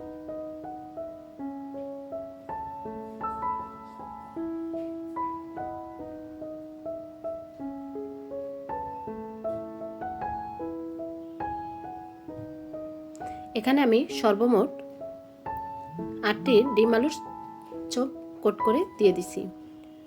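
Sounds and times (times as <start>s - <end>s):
soft piano music: 0.0s - 20.0s.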